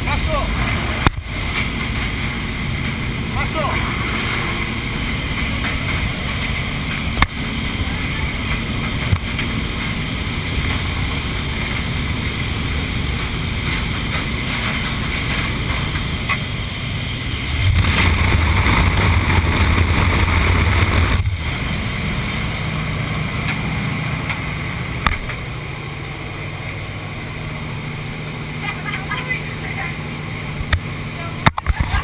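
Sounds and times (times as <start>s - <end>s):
aircraft engine drone: 0.0s - 32.0s.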